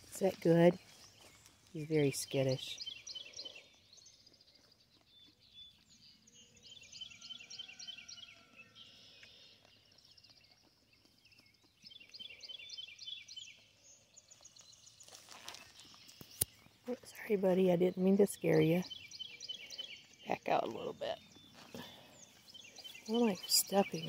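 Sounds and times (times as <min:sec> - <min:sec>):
songbird chirping: 0:00.0 - 0:24.0.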